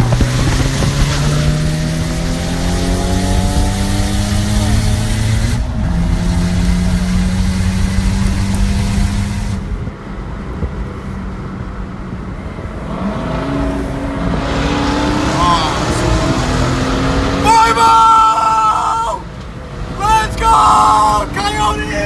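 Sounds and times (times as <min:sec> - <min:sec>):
car engine drone inside cabin: 0:00.0 - 0:22.0.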